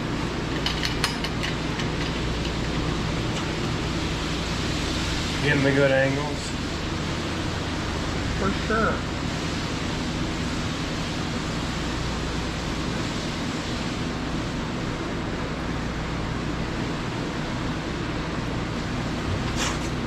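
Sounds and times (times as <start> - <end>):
milking machinery rushing noise: 0.0 - 20.0.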